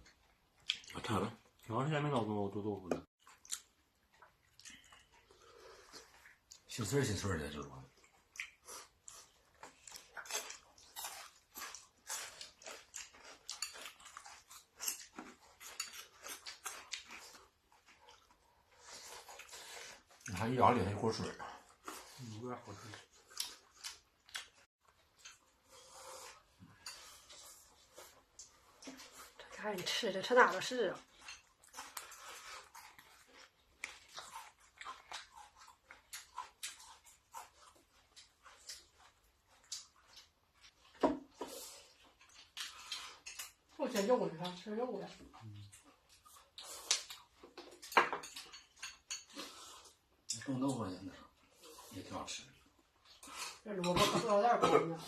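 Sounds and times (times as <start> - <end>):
wet chewing and smacking: 0.0 - 2.1, 2.9 - 55.0.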